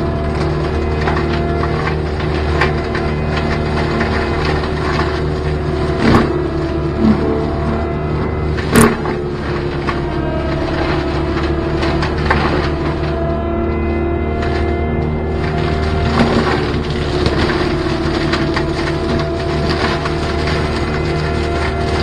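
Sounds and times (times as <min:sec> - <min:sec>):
brush and wood being shredded: 0:00.0 - 0:22.0
diesel engine running under load: 0:00.0 - 0:22.0.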